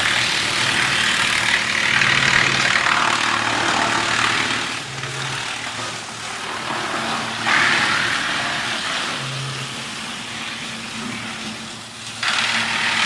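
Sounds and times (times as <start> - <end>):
wood chipper running: 0.0 - 13.0.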